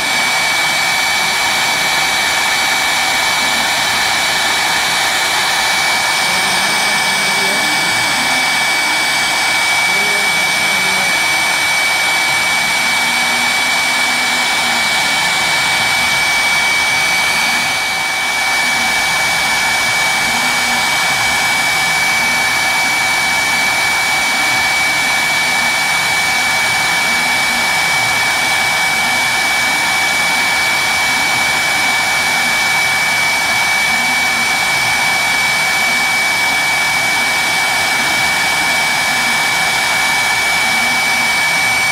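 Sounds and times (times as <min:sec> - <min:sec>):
high-pitched spindle whine: 0:00.0 - 0:41.9.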